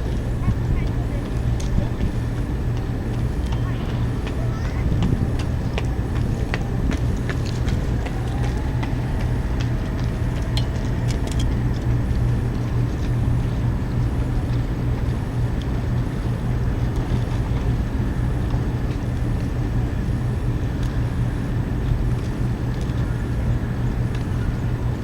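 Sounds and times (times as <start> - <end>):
boat engine running: 0.0 - 25.0
water noise: 0.0 - 25.0
wind noise: 0.0 - 25.0.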